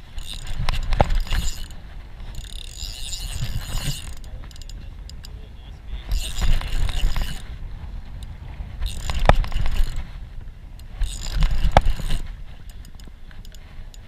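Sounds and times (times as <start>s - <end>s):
fishing reel cranking: 0.0s - 5.4s, 6.0s - 7.5s, 8.2s - 10.1s, 10.8s - 14.0s.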